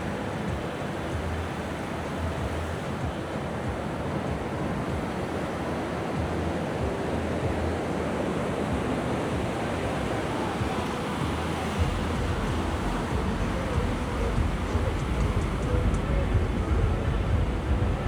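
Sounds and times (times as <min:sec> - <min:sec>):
sea waves washing onto beach: 0:00.0 - 0:18.0
wind rumbling on microphone: 0:00.0 - 0:18.0.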